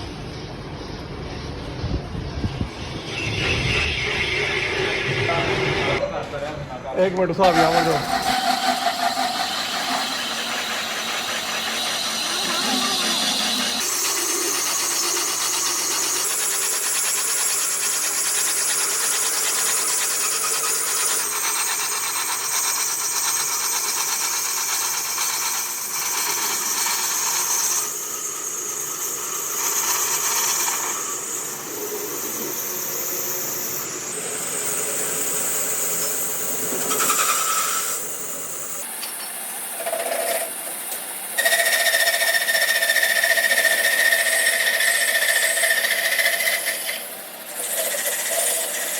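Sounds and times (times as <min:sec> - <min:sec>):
machine whining: 0:00.0 - 0:48.9.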